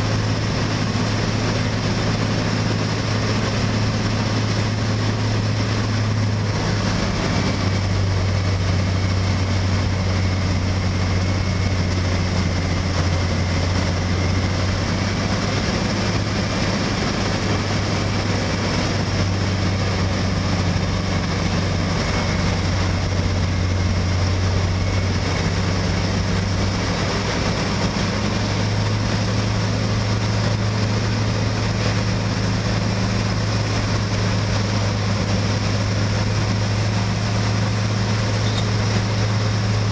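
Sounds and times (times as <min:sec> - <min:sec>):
deep diesel engine drone: 0:00.0 - 0:39.9.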